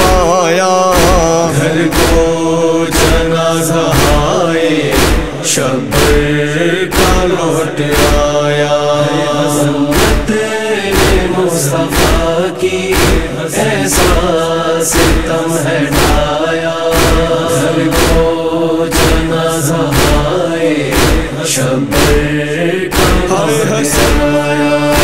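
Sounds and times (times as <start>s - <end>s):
heavy drum beat: 0.0s - 8.5s, 9.9s - 25.0s
chorus chanting a lament: 0.0s - 25.0s.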